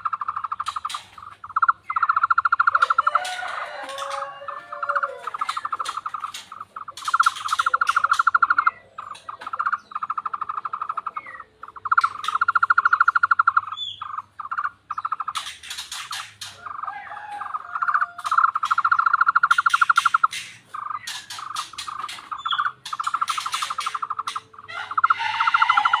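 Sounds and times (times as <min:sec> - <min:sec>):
sharp clicks: 0:00.0 - 0:16.8, 0:17.8 - 0:25.9
bird calling in rapid trill: 0:00.0 - 0:26.0.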